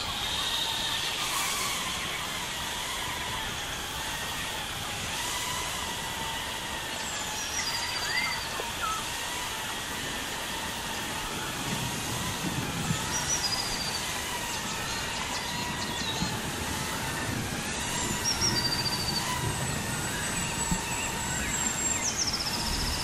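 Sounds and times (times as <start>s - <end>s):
drone propellers whirring: 0.0s - 23.0s.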